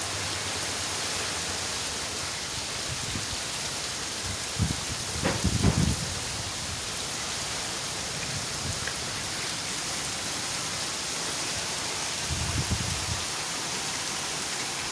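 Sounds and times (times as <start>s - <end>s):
heavy rain: 0.0s - 14.9s.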